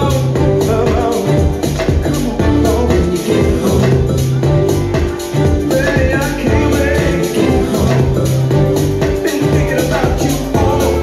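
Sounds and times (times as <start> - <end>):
deep house dance beat: 0.0 - 11.0.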